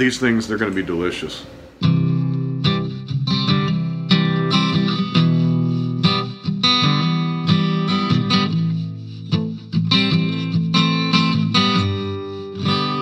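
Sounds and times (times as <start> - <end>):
plucked guitar music: 1.8 - 13.0.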